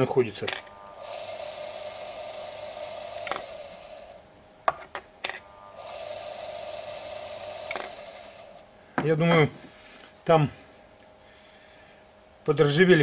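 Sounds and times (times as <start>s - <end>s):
electric pump whine: 0.0s - 11.6s.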